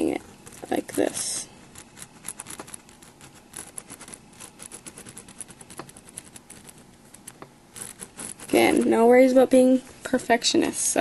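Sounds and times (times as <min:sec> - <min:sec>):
pen scratching on paper: 0:00.0 - 0:09.0.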